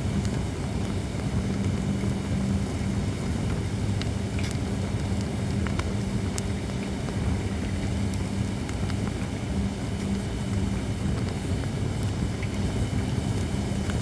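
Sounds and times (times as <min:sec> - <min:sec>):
fire burning with crackles and pops: 0:00.0 - 0:14.0.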